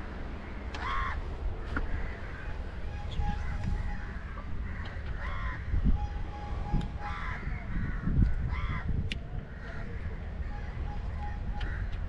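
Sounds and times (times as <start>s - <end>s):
steady low rumble: 0.0s - 12.0s
bird calling: 0.4s - 8.8s, 9.6s - 12.0s.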